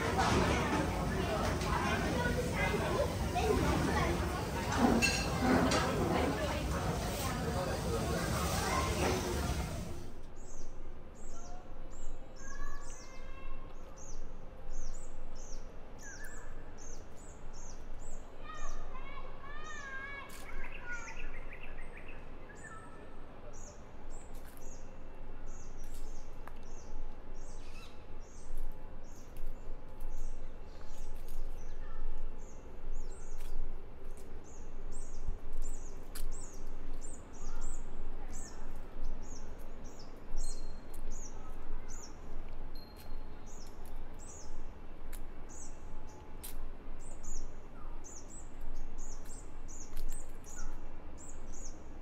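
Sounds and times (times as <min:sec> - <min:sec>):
birds chirping: 0:00.0 - 0:46.2.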